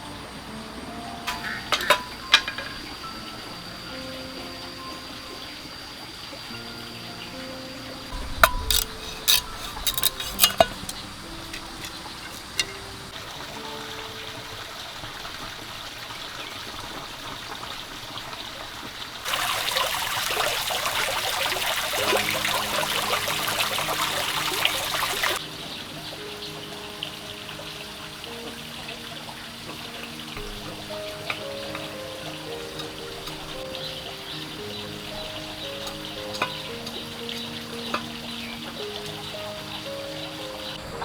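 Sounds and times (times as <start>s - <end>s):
soft background music: 0.0s - 16.8s, 19.3s - 41.0s
water running loudly: 0.0s - 41.0s.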